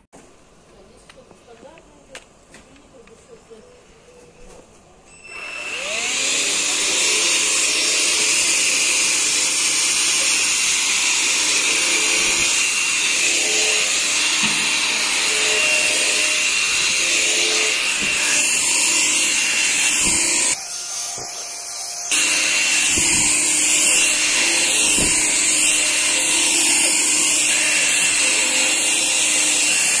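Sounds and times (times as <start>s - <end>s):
stick vacuum whining: 5.2s - 30.0s.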